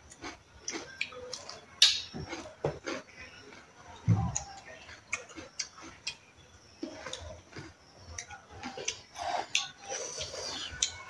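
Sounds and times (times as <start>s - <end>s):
chewing mouth clicks and smacks: 0.1s - 3.7s, 4.3s - 11.0s.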